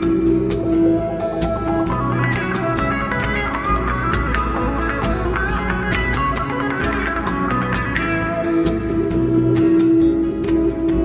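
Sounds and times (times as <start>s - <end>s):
layered guitar music: 0.0s - 11.0s.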